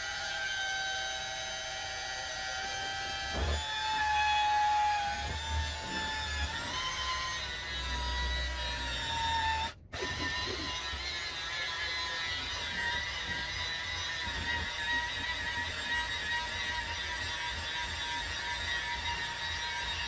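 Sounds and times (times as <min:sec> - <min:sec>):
power tool motor whining: 0:00.0 - 0:20.0.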